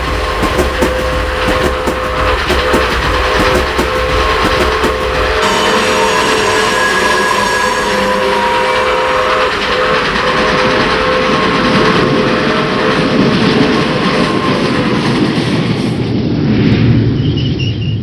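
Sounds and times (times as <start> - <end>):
steady high tones: 0.0 - 15.3
train rumbling on rails: 0.0 - 18.0.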